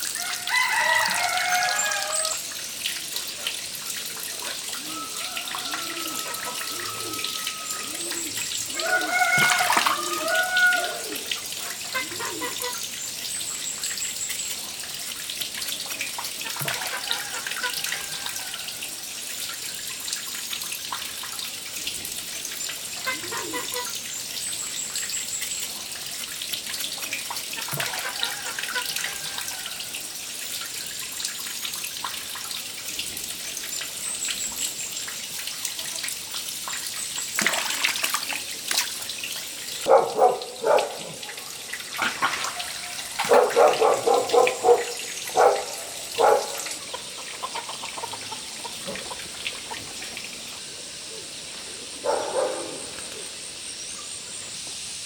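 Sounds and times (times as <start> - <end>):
tap water running into sink: 0.0 - 47.0.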